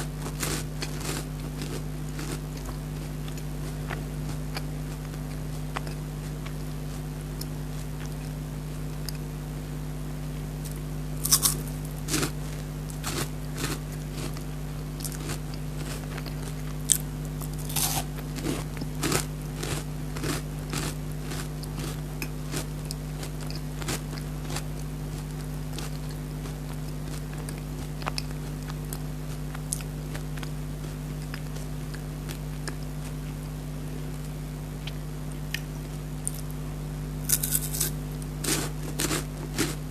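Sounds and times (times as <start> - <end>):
crunchy chewing of wafer bar: 0.0 - 8.4, 10.6 - 33.3, 37.2 - 39.9
steady low hum: 0.0 - 39.9.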